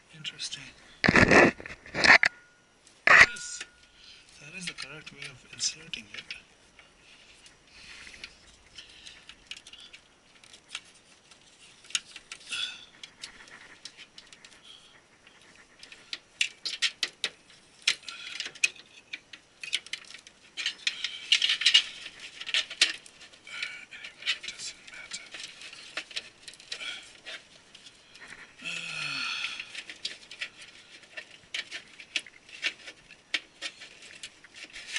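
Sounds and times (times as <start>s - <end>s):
rustling: 0.0s - 34.9s.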